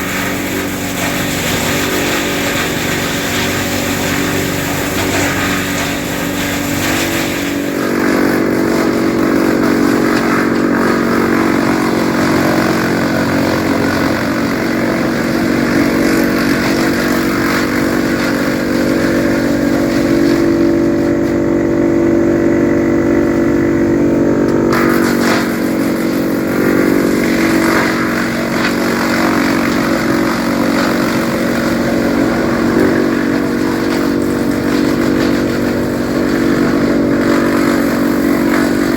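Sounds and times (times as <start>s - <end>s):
tractor engine under load: 0.0s - 38.9s
wood chipper chipping branches: 0.0s - 38.9s.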